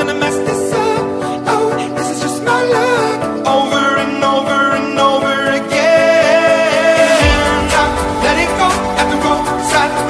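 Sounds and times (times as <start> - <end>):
melodic background music: 0.0 - 10.0.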